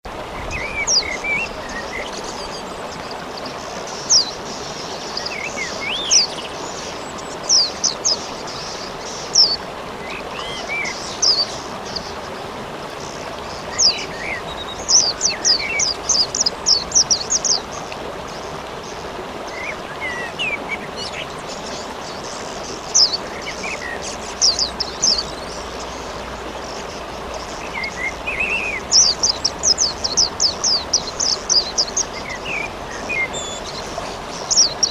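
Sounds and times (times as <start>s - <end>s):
rain hiss: 0.1s - 34.9s
small birds chirping: 0.4s - 34.9s.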